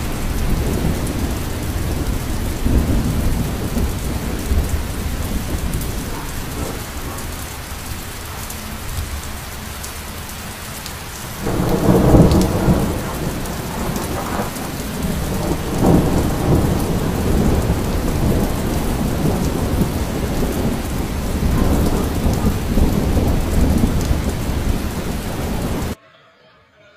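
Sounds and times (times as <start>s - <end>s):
steady rain: 0.0s - 26.0s
thunder rumbling: 0.0s - 26.0s.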